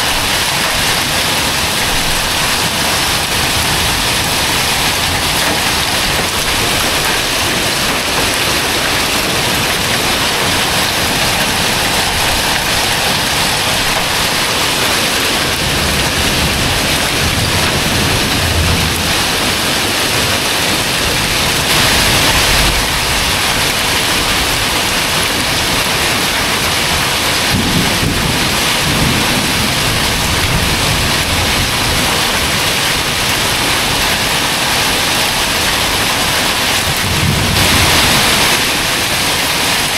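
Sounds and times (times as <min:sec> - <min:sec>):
heavy rain pouring on pavement: 0:00.0 - 0:39.9
thunder rumbling: 0:00.8 - 0:34.0, 0:36.8 - 0:39.9.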